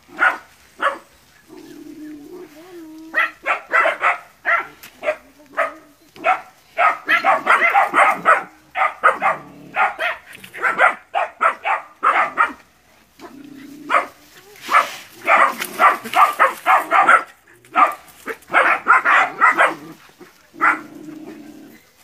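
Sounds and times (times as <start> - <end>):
puppies yapping and barking: 0.0 - 22.0.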